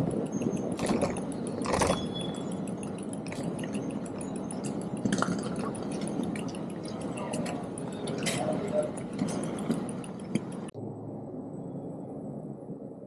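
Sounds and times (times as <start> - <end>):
light clinks and ticks: 0.0 - 10.8
people and movement: 0.0 - 10.8.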